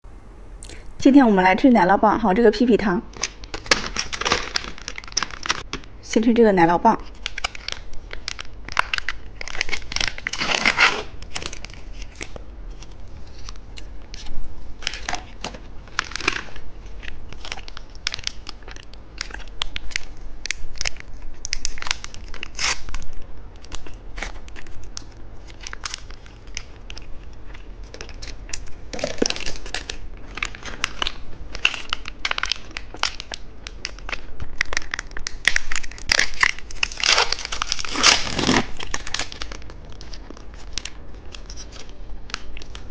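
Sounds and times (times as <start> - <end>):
plastic wrapper crinkling and tearing: 3.1 - 6.0, 7.0 - 42.9.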